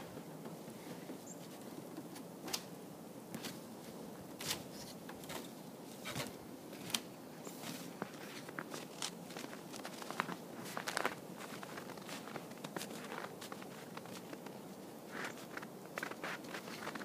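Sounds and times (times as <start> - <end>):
footsteps crunching in snow: 3.4 - 17.0.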